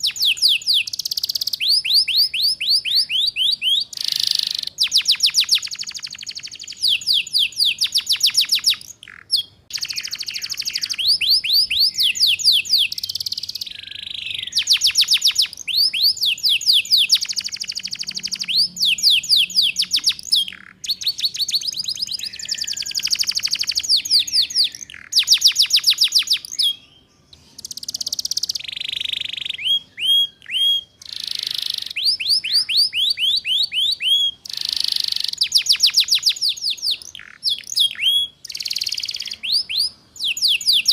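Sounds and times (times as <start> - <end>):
canary singing fast trill: 0.0 - 40.9.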